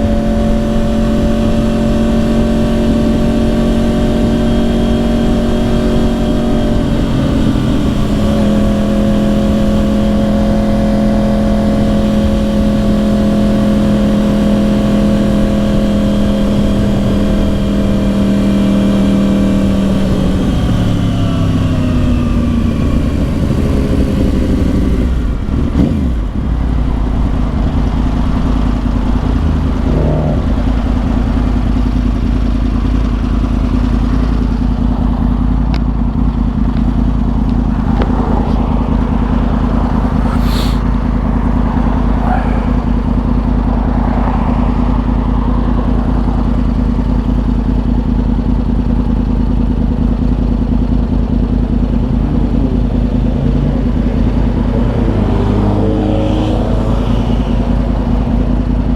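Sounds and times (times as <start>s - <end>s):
motorcycle engine idling: 0.0s - 58.9s
motorcycle engine slowing: 0.0s - 58.9s.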